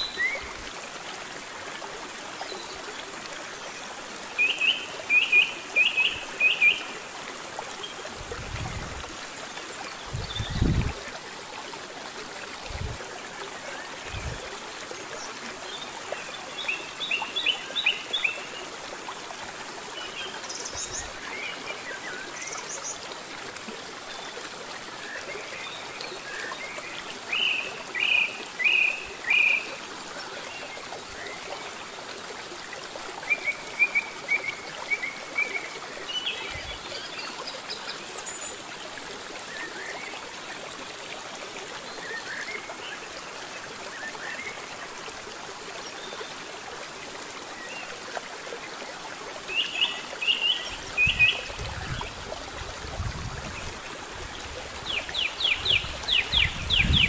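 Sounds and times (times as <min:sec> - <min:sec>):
stream running over stones: 0:00.0 - 0:57.0.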